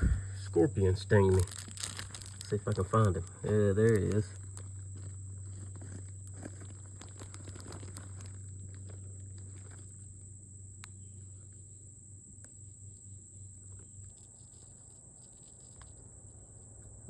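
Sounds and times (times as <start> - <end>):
crickets trilling: 0.0 - 17.0
low steady hum: 0.0 - 17.0.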